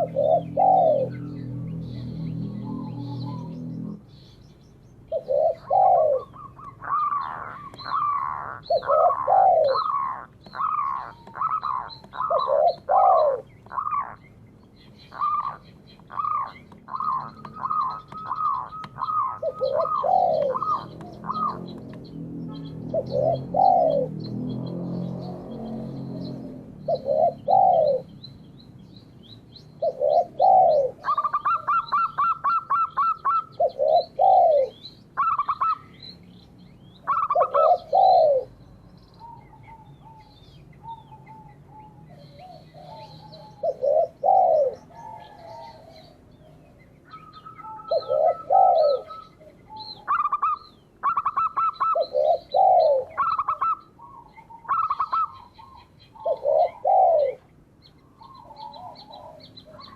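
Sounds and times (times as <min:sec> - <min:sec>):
doves cooing: 0:00.0 - 0:04.4, 0:05.0 - 0:28.3, 0:29.8 - 0:59.9
birds trilling and chirping: 0:00.0 - 0:59.9.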